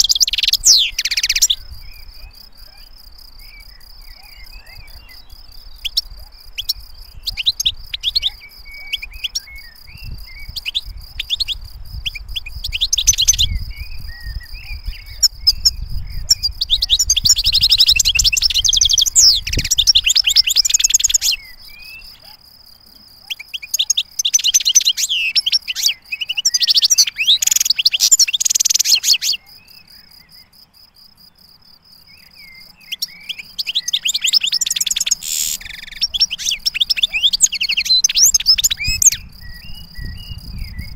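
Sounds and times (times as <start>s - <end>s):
goldfinch twittering song: 0.0s - 22.3s, 23.2s - 30.5s, 32.1s - 40.9s.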